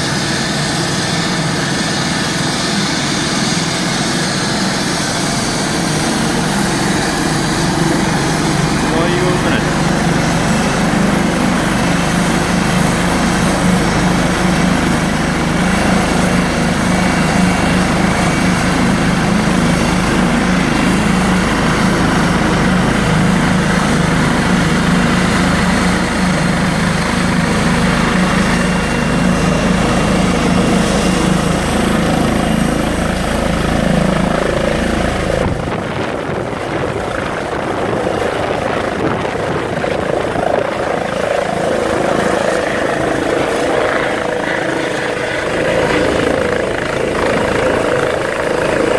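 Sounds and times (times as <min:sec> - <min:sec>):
helicopter turbines and rotor: 0:00.0 - 0:48.9.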